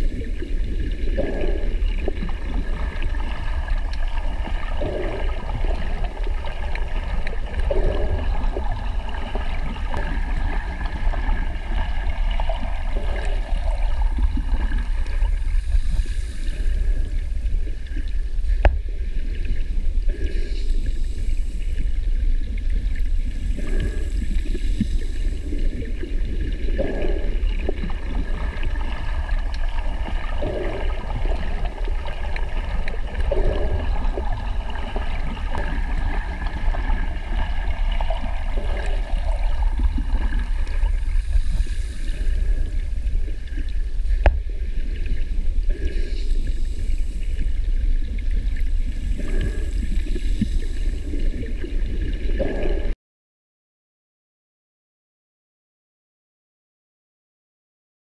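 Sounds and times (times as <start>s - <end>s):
low underwater rumble: 0.0s - 53.0s
soft gurgles: 0.0s - 53.0s.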